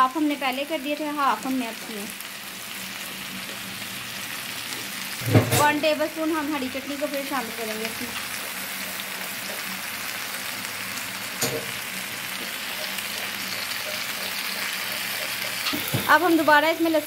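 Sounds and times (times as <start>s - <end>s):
meat sizzling on a hot pan: 0.0s - 17.0s.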